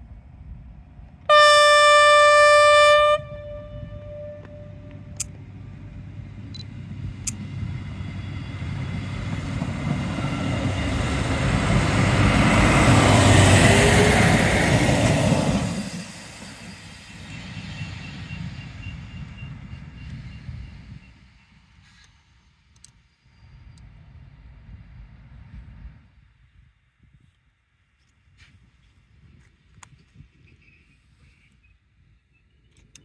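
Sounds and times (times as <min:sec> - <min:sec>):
diesel train passing: 0:00.0 - 0:26.9.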